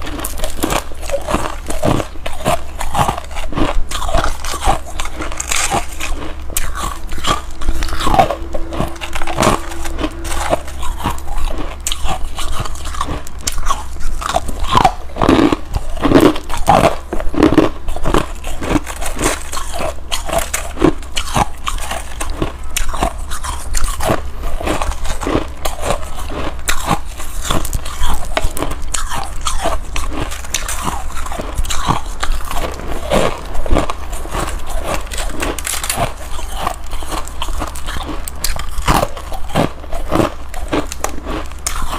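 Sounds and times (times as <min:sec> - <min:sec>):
chewing crunchy ice: 0:00.0 - 0:41.9.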